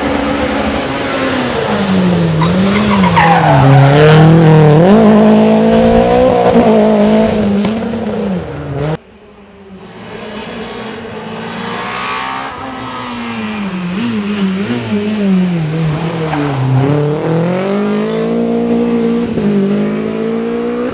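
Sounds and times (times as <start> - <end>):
rally car engine passing: 0.0 - 20.9.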